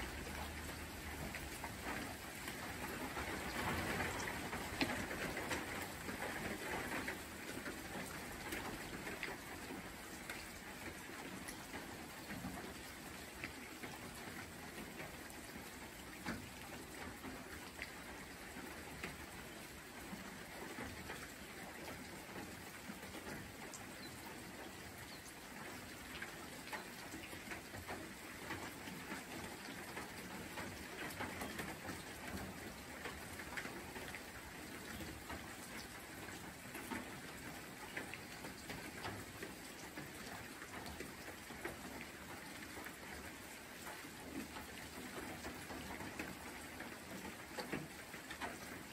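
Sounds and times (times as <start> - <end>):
light rain on foliage: 0.0 - 48.9.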